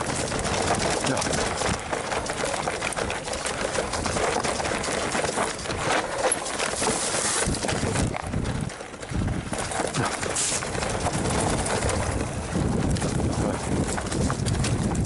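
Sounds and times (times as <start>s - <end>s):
wind buffeting microphone: 0.0s - 6.0s, 6.8s - 15.0s
bike rattling: 0.0s - 15.0s
tyres crunching over loose ground: 0.0s - 15.0s.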